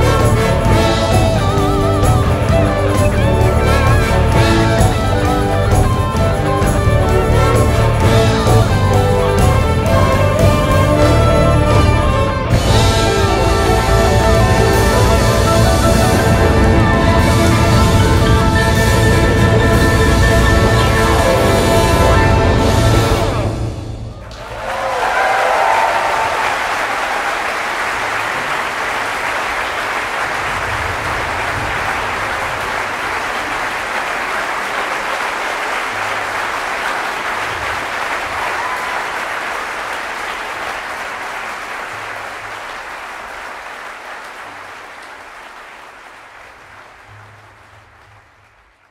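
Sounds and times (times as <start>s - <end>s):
audience applauding: 0.0s - 23.6s, 24.2s - 48.9s.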